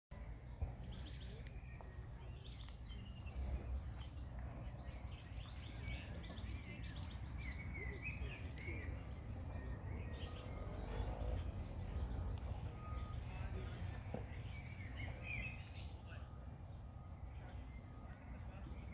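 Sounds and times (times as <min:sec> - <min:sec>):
songbirds chirping and trilling: 0:00.2 - 0:18.9.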